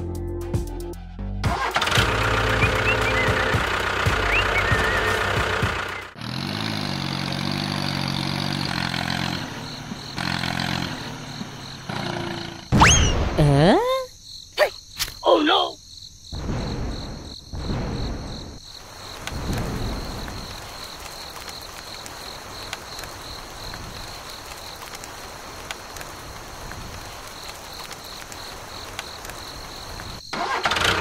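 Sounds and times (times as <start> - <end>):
insects chirping: 2.5 - 31.0.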